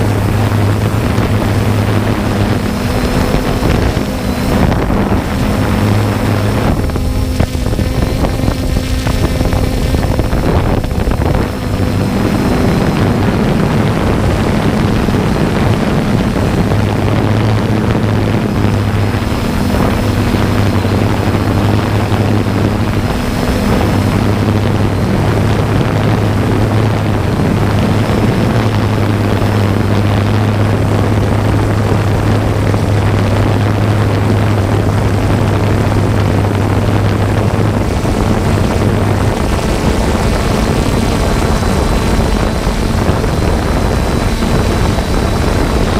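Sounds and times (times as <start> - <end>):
drone motors humming: 0.0 - 45.9
loud noise: 0.0 - 45.9.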